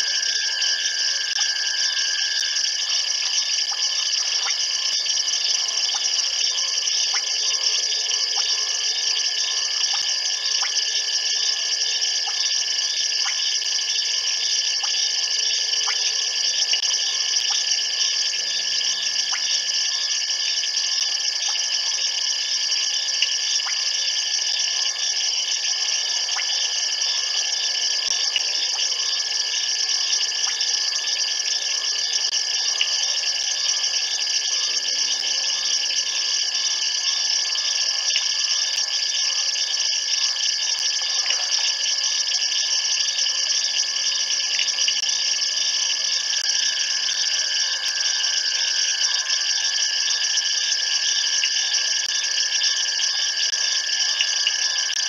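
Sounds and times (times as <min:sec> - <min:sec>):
frogs: 0:00.0 - 0:55.0
insects chirring: 0:00.0 - 0:55.0.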